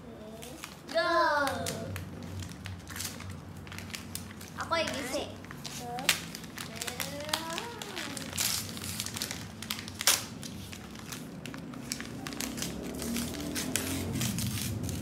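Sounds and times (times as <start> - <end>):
paper bags crinkling and tearing: 0.2 - 15.0.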